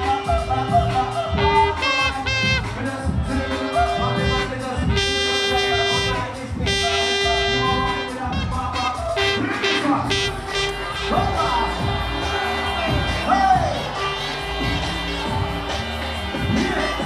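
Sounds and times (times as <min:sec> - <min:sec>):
dance music with heavy bass: 0:00.0 - 0:17.0.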